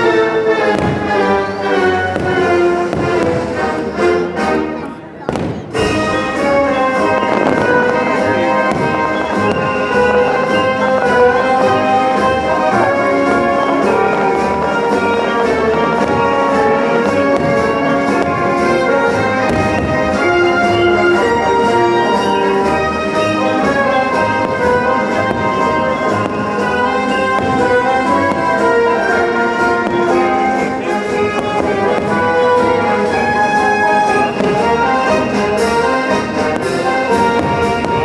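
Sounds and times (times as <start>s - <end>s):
orchestral music with brass: 0.0s - 38.0s.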